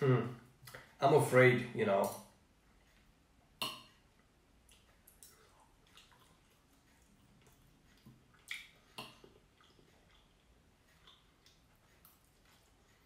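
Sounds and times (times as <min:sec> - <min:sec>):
soft wet clicks: 0:02.0 - 0:13.0.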